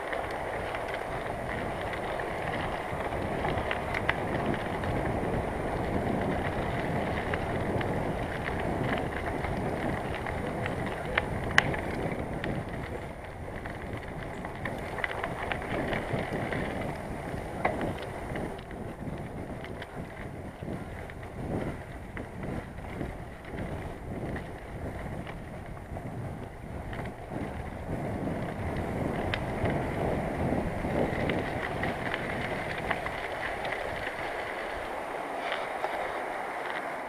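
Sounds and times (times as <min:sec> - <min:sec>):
bicycle knocks and rattles: 0:00.0 - 0:34.8
bicycle tyre noise: 0:00.0 - 0:37.0
wind on microphone: 0:00.0 - 0:37.0.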